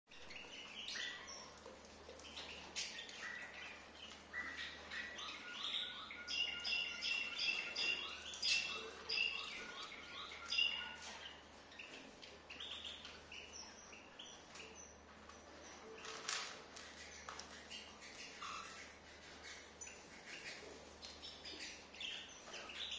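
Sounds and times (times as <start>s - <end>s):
cockatiels chirping: 0.2s - 22.9s.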